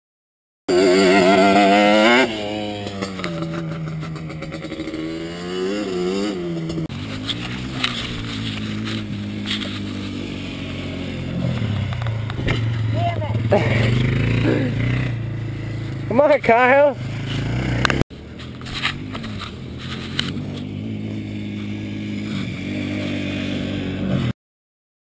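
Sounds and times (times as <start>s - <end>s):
atv engine revving: 0.7s - 24.3s.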